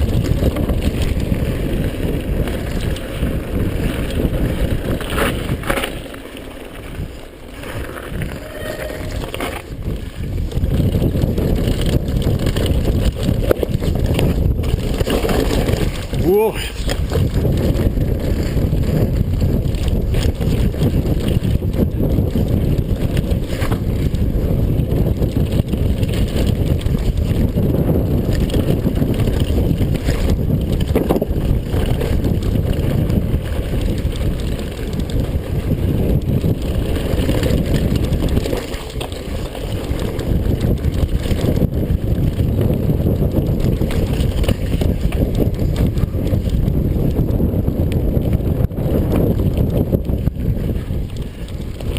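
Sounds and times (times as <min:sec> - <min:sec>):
bike rattling over bumps: 0:00.0 - 0:51.9
bike tyres rolling on dirt: 0:00.0 - 0:51.9
wind buffeting microphone: 0:00.0 - 0:51.9.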